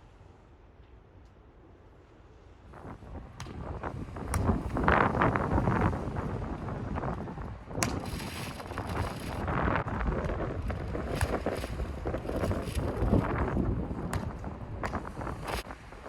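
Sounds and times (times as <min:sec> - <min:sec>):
wind buffeting microphone: 0:02.6 - 0:16.0.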